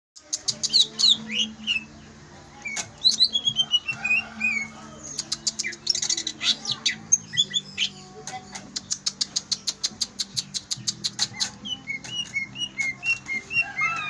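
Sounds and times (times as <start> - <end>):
songbird singing: 0.2 - 14.0.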